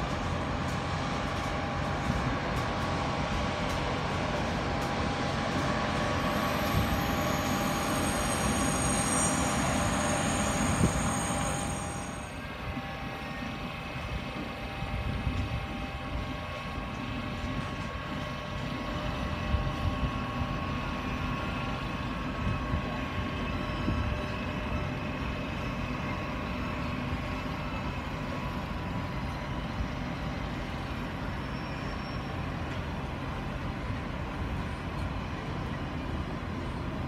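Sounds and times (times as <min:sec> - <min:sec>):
train low rumble: 0:00.0 - 0:37.0
train whine: 0:00.0 - 0:37.0.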